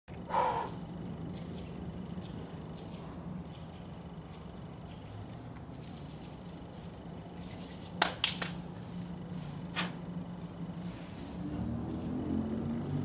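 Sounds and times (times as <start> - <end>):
faint low hum: 0.1 - 13.0.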